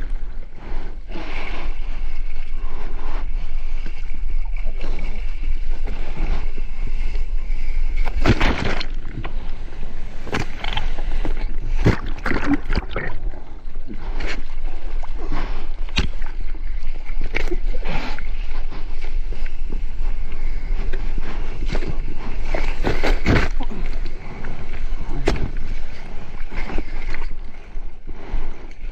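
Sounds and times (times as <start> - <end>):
sea water sloshing and splashing: 0.0 - 28.9
steady low rumble: 0.0 - 28.9.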